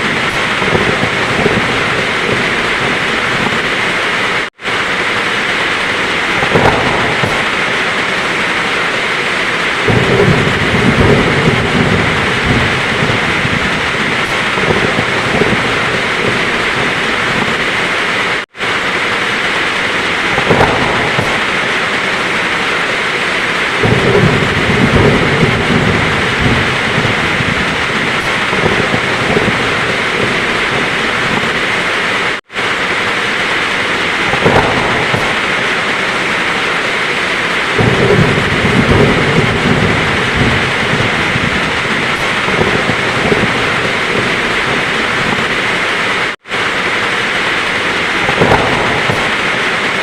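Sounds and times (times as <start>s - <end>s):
heavy rain falling: 0.0s - 50.0s
thunder rolling: 0.0s - 50.0s.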